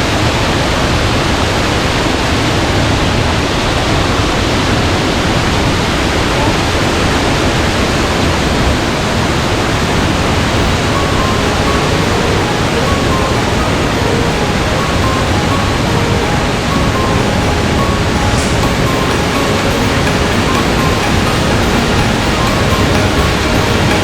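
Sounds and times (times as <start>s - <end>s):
waterfall rushing: 0.8s - 24.0s.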